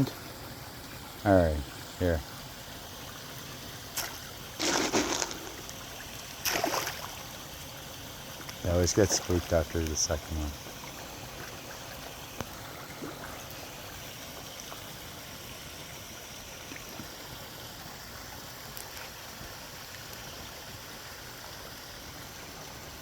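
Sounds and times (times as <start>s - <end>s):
water splashing into pond: 0.0s - 23.0s.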